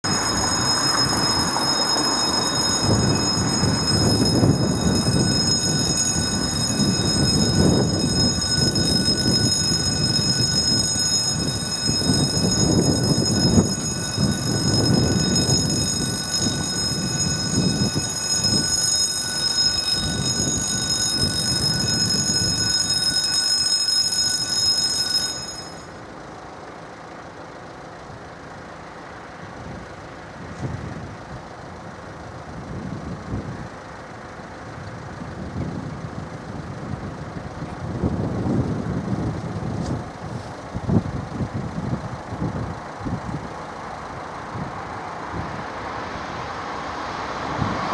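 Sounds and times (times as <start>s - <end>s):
level-crossing warning bell: 0.0s - 47.9s.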